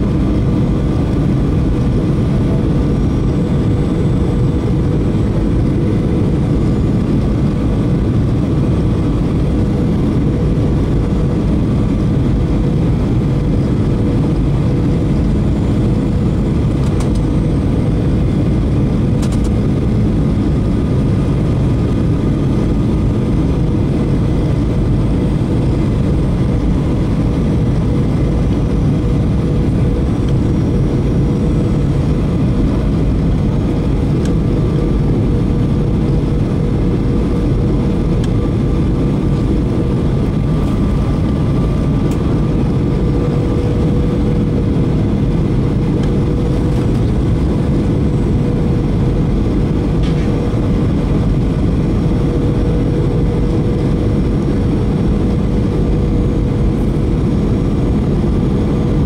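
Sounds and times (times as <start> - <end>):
airflow rumble in plane cabin: 0.0 - 59.0
jet engine hum: 0.0 - 59.0.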